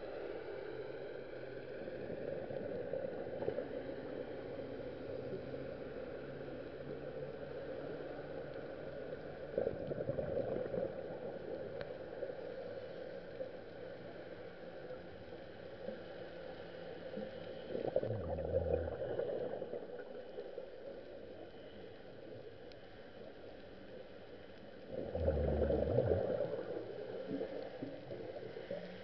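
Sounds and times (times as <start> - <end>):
faint steady tones: 0.0 - 29.0
underwater hum: 0.0 - 29.0.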